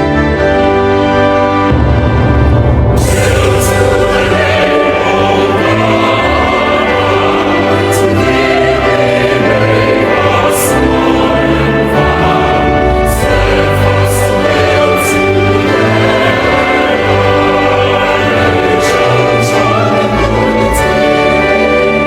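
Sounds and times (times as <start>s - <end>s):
choir singing an anthem: 1.6s - 22.0s.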